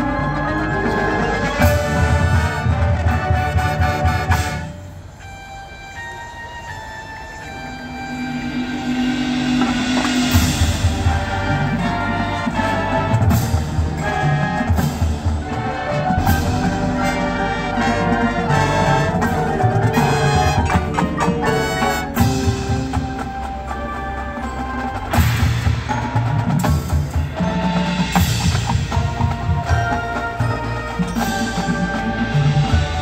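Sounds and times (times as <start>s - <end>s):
marching drums and percussion: 0.0s - 5.5s, 7.2s - 33.0s
brass ensemble: 0.0s - 33.0s.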